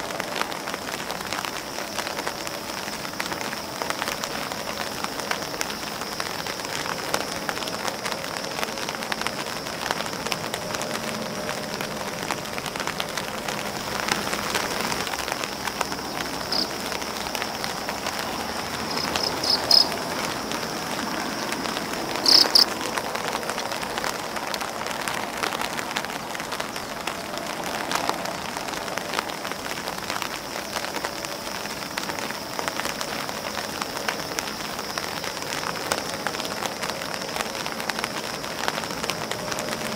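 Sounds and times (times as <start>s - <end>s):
rain pattering on leaves and umbrella: 0.0s - 39.9s.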